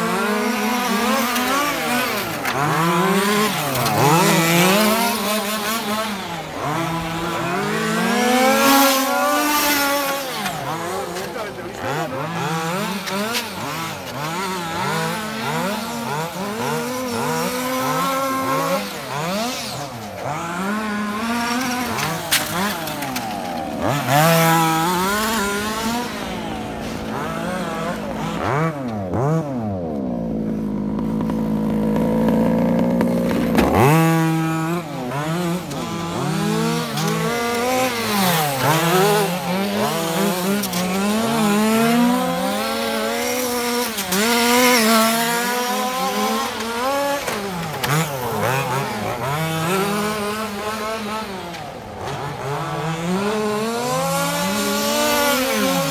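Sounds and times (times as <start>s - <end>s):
rc car engine revving: 0.0s - 55.9s
second car engine: 0.0s - 55.9s.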